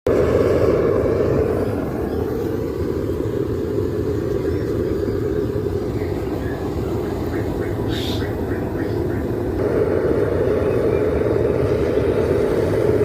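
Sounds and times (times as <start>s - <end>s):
forge rumbling: 0.1s - 13.0s.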